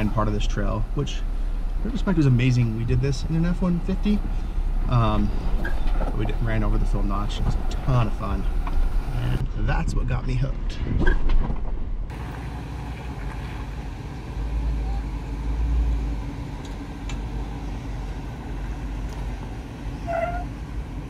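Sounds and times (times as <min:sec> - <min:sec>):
car engine running low rumble: 0:00.0 - 0:21.0.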